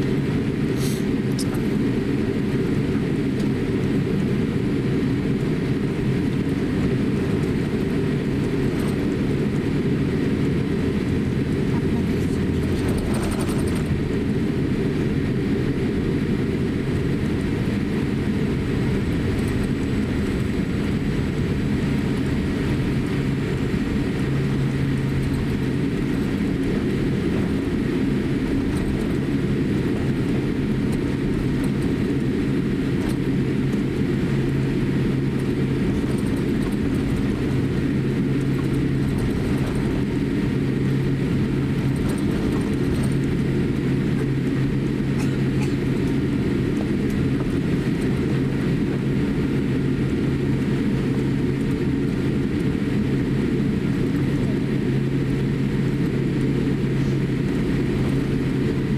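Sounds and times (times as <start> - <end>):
aircraft cabin drone: 0.0 - 58.9
low hum: 0.0 - 58.9.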